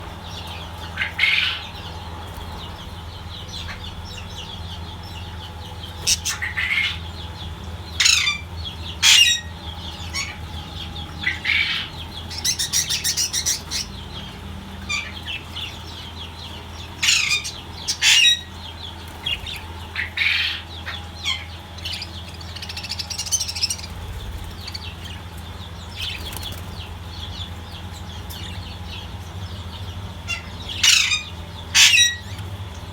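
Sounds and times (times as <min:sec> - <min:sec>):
budgerigars chirping and squawking: 0:00.0 - 0:32.9
steady low hum: 0:00.0 - 0:32.9.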